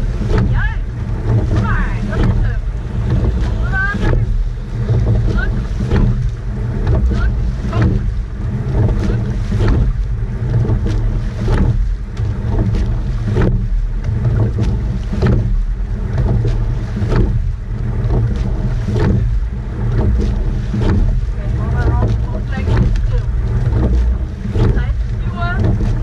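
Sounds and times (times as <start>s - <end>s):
oars clacking in oarlocks: 0.0s - 26.0s
water rushing past hull: 0.0s - 26.0s
wind buffeting microphone: 0.0s - 26.0s.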